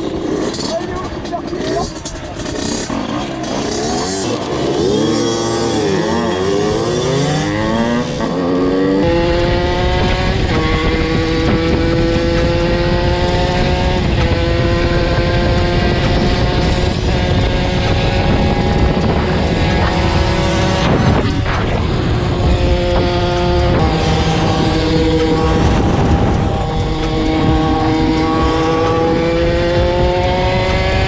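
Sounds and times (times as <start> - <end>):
motorcycle engine at high revs: 0.0 - 31.0
motorcycle engines revving: 0.0 - 31.0.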